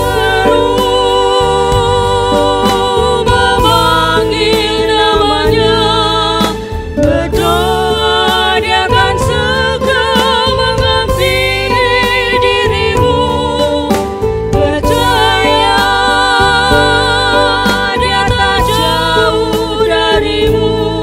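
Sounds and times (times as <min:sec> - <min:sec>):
women singing in unison: 0:00.0 - 0:21.0.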